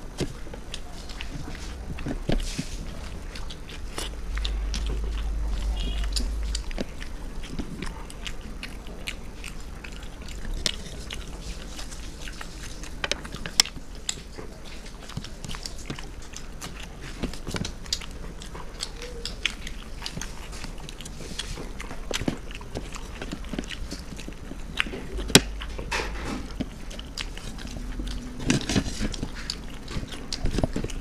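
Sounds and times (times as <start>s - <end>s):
people chewing food: 0.0s - 31.0s
mouth clicks and smacks: 0.1s - 31.0s.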